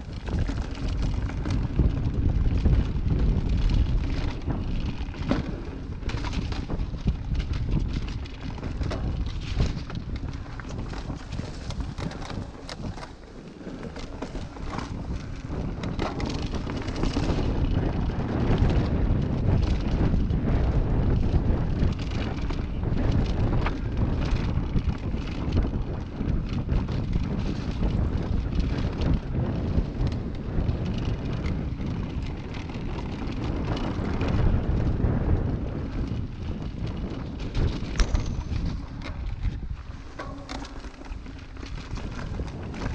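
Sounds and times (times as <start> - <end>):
bike clicks and rattles: 0.0 - 42.9
bike tyres rolling over dirt: 0.0 - 42.9
wind buffeting microphone: 0.0 - 42.9.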